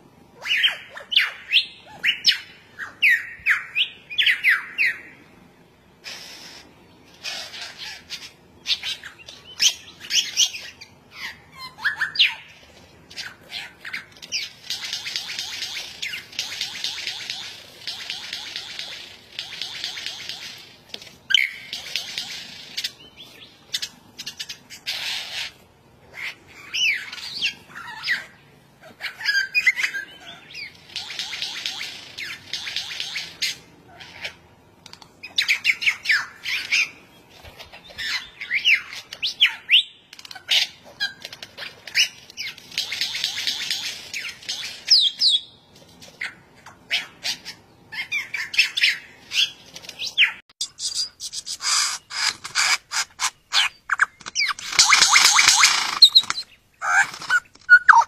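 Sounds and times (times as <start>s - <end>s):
lyrebird singing: 0.4s - 5.2s, 6.0s - 58.0s.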